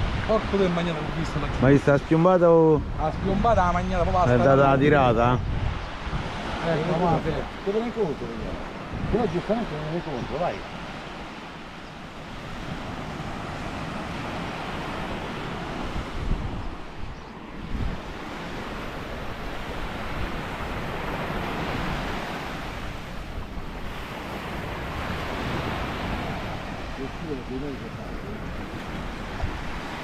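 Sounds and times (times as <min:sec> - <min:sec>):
surf breaking on shore: 0:00.0 - 0:30.0
wind buffeting microphone: 0:00.0 - 0:30.0.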